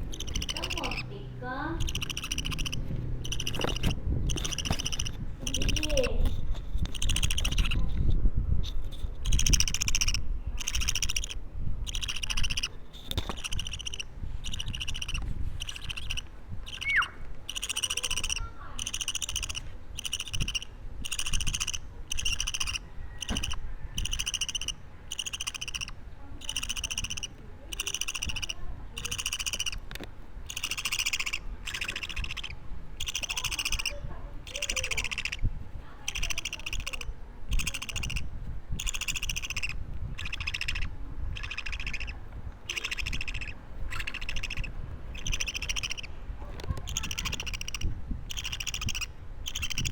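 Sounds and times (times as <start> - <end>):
budgerigar chick calling: 0.0 - 8.0, 9.2 - 49.9.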